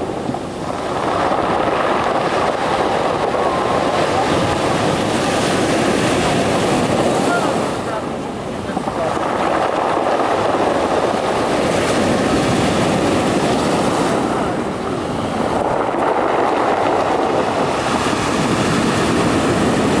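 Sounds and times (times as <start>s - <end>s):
surf washing over pebbles: 0.0s - 20.0s.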